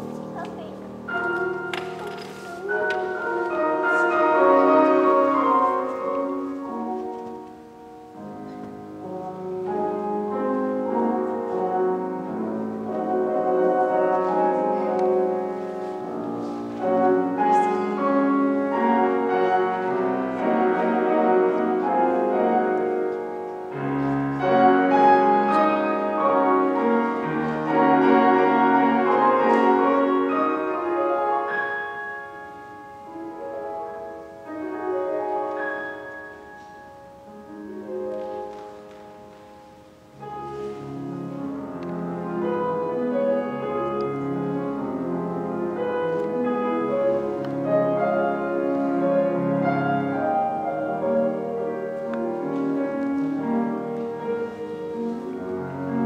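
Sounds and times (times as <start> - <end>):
grand piano playing: 0.0 - 56.0.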